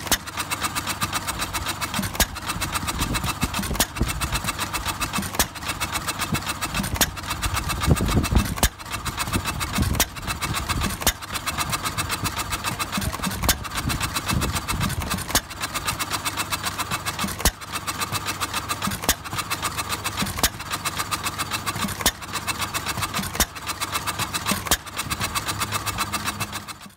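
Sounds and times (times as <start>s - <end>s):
stationary engine running: 0.0s - 26.9s.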